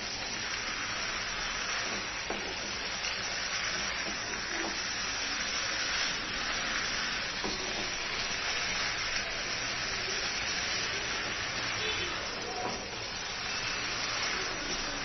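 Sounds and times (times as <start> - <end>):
food sizzling in a frying pan: 0.0 - 15.0
spatula stirring in a pan: 0.0 - 15.0.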